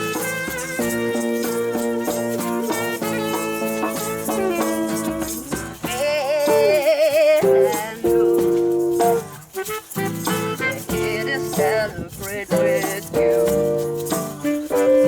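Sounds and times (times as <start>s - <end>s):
music with held notes: 0.0s - 11.8s, 12.6s - 15.0s
shaker rattling: 0.0s - 15.0s.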